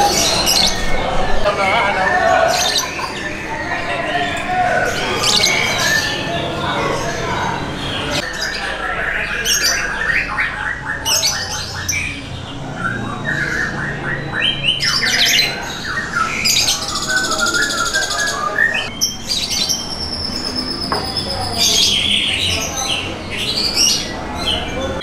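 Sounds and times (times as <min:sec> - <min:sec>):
caged songbirds calling and singing: 0:00.0 - 0:25.0.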